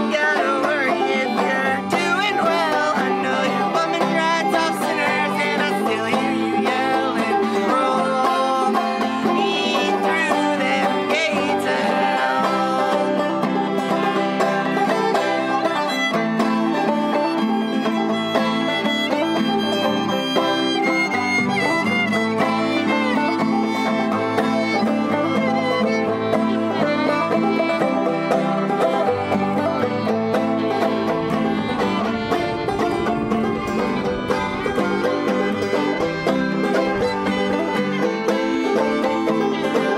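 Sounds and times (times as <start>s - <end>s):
acoustic string-band music: 0.0s - 39.9s.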